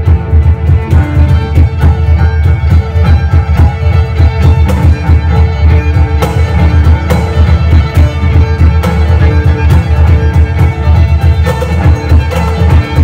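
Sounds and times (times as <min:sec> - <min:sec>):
bowed violin melody: 0:00.0 - 0:13.0
cello: 0:00.0 - 0:13.0.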